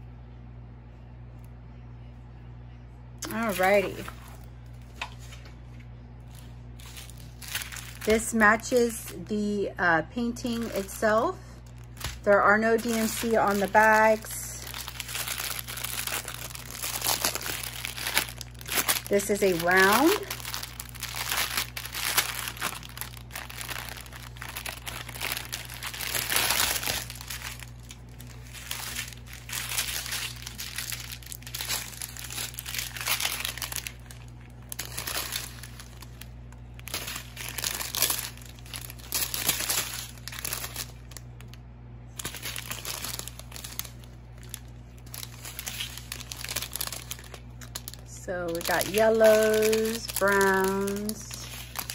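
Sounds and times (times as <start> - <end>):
plastic bags crinkling: 3.2 - 5.5, 6.2 - 51.9.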